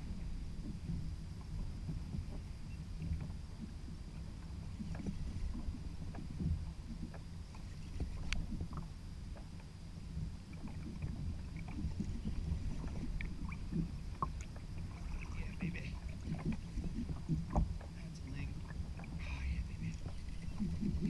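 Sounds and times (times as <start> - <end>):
water sloshing against kayak hull: 0.0 - 21.0.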